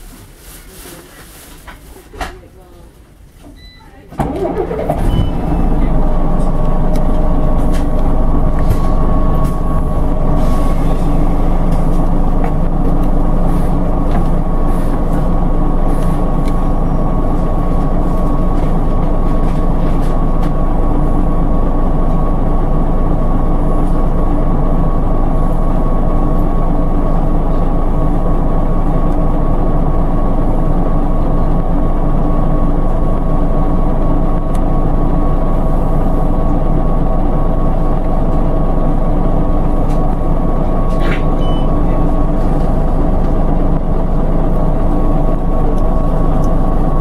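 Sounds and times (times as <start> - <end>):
diesel bus engine idling: 4.2 - 47.0.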